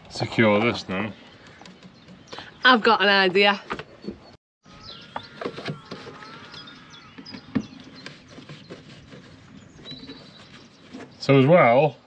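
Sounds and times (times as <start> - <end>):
birds chirping faintly: 0.1 - 12.0.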